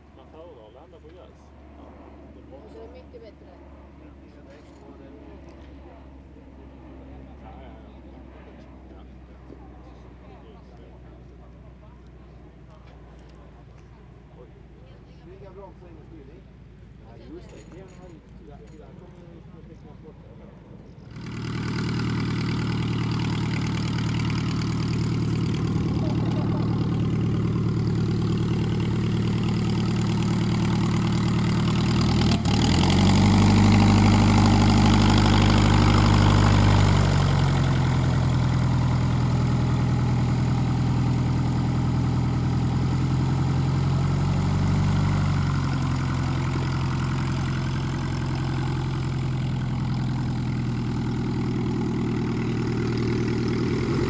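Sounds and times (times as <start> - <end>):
aircraft piston engine idling: 0.0 - 54.0.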